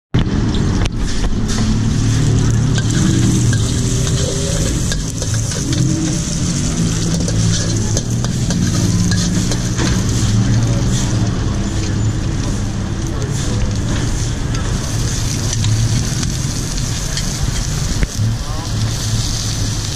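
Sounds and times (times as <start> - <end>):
low rumble: 0.2 - 19.9
egg sizzling in oil: 1.4 - 13.0, 14.6 - 19.9.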